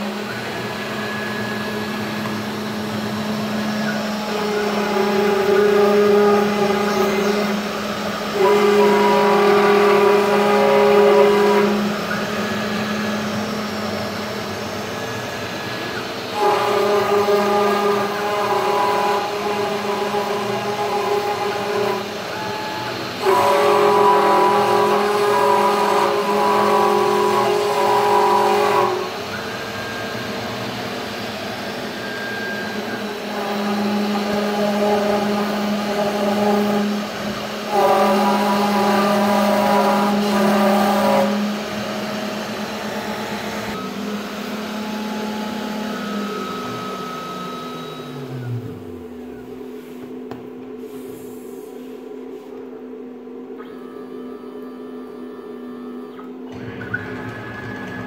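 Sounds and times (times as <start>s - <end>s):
router spindle running: 0.0s - 49.6s
stepper motors whining: 0.0s - 50.7s, 52.9s - 58.0s.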